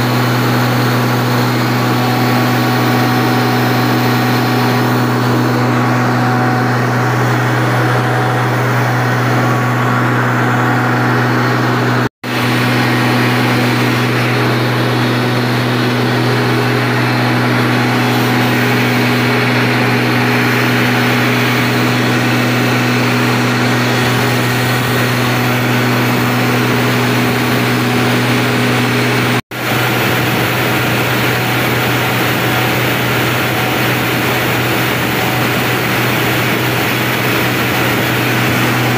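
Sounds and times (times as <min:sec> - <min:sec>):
diesel generator engine humming: 0:00.0 - 0:38.9.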